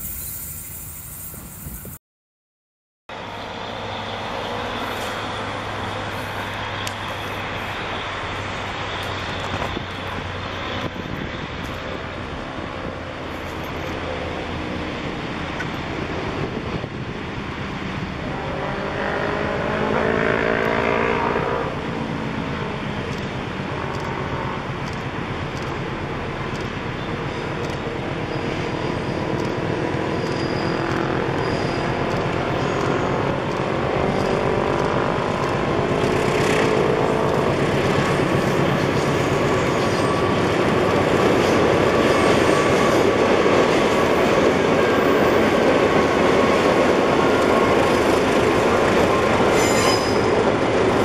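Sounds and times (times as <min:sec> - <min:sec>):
distant diesel locomotive engine: 0:03.1 - 0:51.0.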